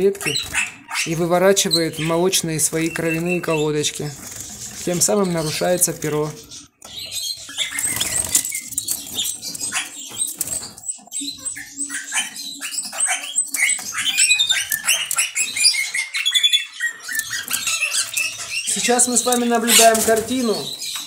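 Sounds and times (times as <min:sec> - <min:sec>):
canaries chirping: 0:00.0 - 0:21.0.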